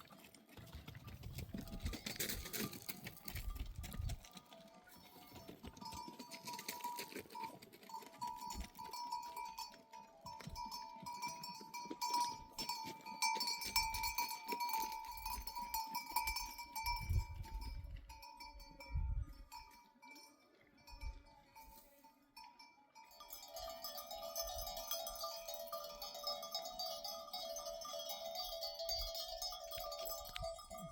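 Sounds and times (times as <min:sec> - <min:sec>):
sheep neck bells clanking: 0:00.0 - 0:30.9.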